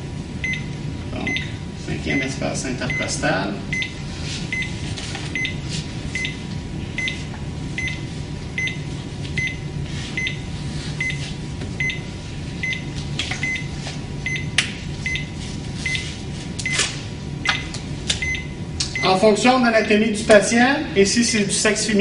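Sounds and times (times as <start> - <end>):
cardiac monitor beeping: 0.0 - 19.4.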